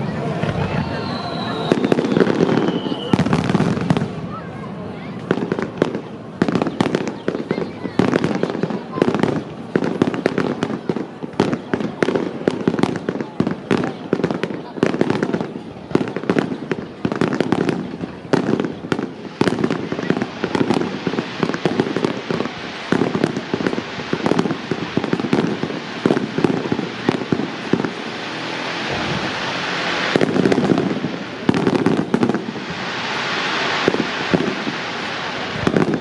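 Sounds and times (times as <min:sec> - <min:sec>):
fireworks hissing: 0:00.0 - 0:36.0.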